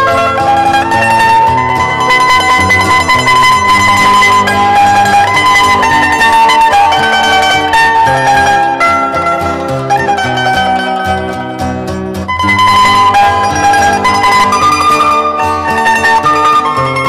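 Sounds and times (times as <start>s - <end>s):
bass line: 0.0s - 17.0s
plucked string instrument melody: 0.0s - 17.0s.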